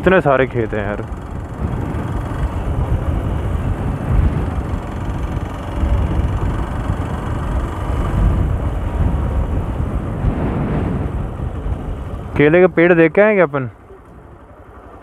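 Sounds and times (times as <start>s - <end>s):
motorcycle engine rumbling: 0.0s - 15.0s
riding wind rushing: 0.0s - 15.0s.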